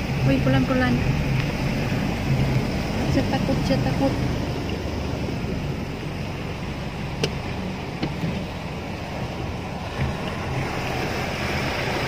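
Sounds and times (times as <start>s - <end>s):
low engine hum: 0.0s - 12.0s
water swirling around car: 0.0s - 12.0s.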